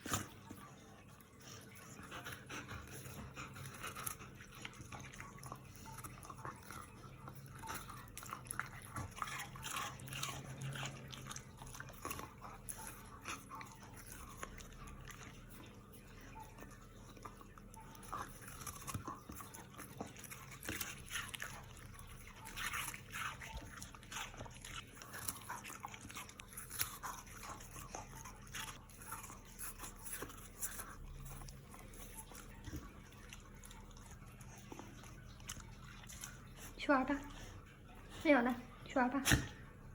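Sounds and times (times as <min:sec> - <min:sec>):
puppy chewing: 0:00.0 - 0:39.9.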